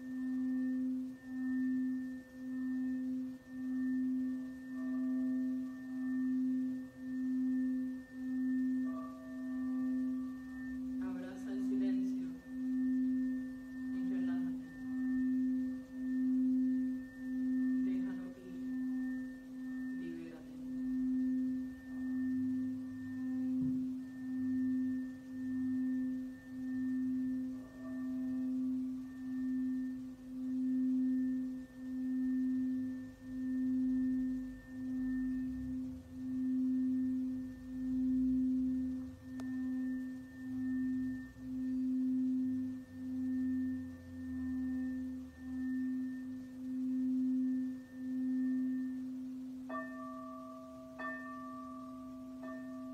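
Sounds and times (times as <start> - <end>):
singing bowl ringing: 0.0 - 52.9.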